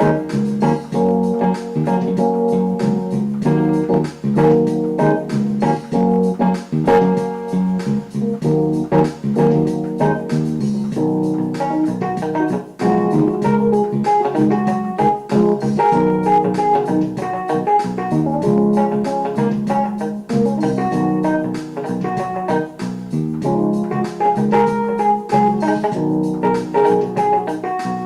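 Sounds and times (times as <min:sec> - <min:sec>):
keyboard music with organ and piano: 0:00.0 - 0:28.0.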